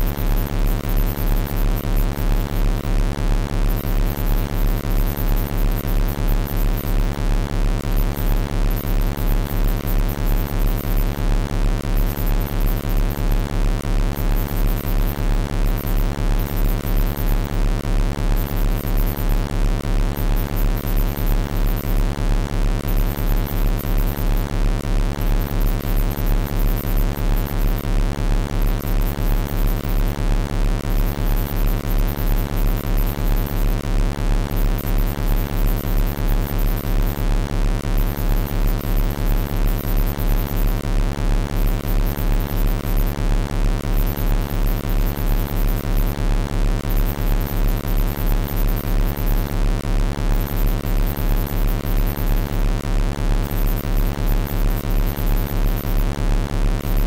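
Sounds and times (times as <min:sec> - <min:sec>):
deep pulsing electronic hum: 0:00.0 - 0:57.0.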